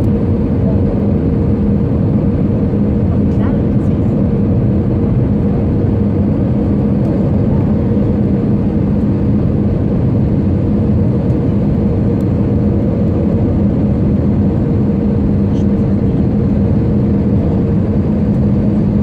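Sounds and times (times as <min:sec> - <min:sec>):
jet engine and airflow in cabin: 0:00.0 - 0:19.0.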